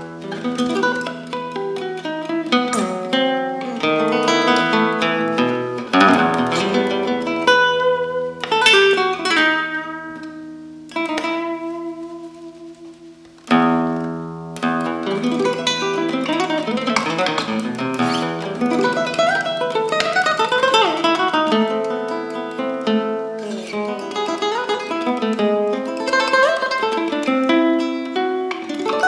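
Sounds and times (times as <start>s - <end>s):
classical guitar fingerstyle: 0.0s - 29.0s.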